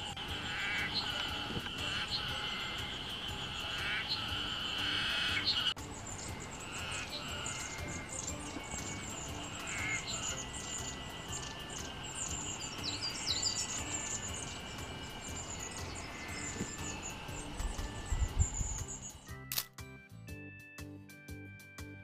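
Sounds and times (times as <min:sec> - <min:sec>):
buzzing drone: 0:00.0 - 0:19.3
songbirds chirping: 0:00.0 - 0:19.4.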